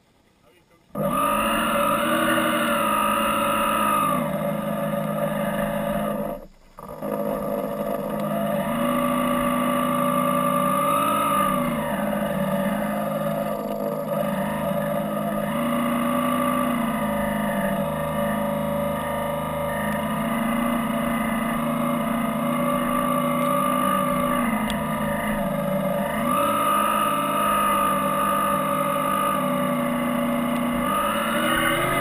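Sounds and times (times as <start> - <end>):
model boat motor whine: 0.7 - 32.0.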